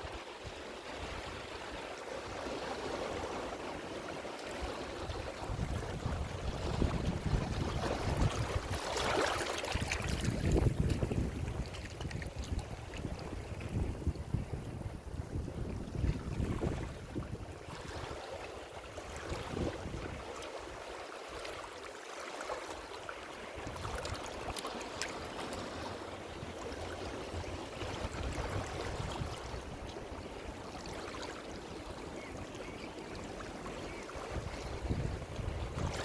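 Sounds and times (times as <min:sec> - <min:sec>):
deep rumble of waves: 0:00.0 - 0:20.9, 0:23.5 - 0:32.4, 0:33.3 - 0:36.0.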